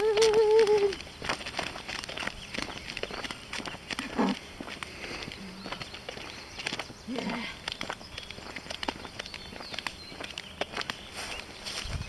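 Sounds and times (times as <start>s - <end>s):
running footsteps: 0.0s - 12.0s.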